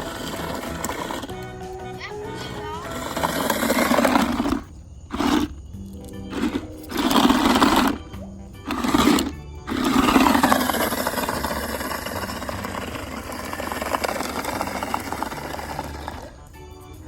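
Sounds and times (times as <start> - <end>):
toy truck motor whirring: 0.0 - 16.8.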